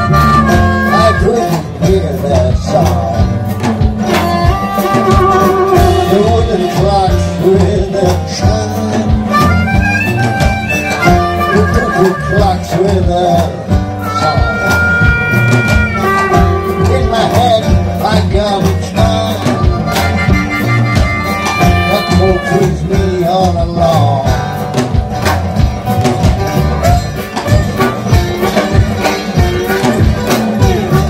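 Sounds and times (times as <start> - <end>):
harmonica bent notes: 0.0 - 23.5, 24.2 - 31.0
blues band playing: 0.0 - 31.0.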